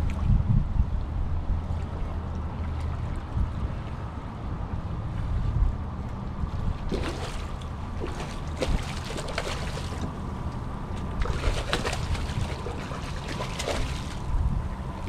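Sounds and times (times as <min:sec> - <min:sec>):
water splashing and sloshing: 0:00.0 - 0:15.0
wind rumble on microphone: 0:00.0 - 0:15.0.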